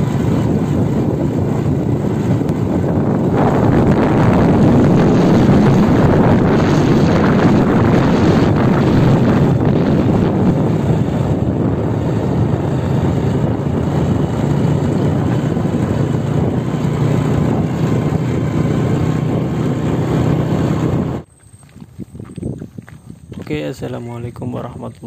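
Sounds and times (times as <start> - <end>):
motorcycle engine running: 0.0 - 21.3
wind rushing over microphone: 0.0 - 25.0.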